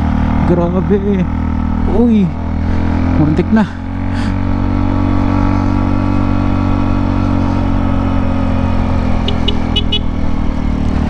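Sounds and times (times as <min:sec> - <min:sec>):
motorcycle engine running under load: 0:00.0 - 0:11.0.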